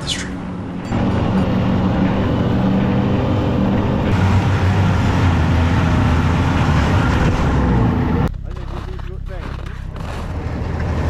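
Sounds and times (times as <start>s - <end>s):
track and wind noise: 0.0s - 11.0s
snowmobile engine running: 0.6s - 11.0s.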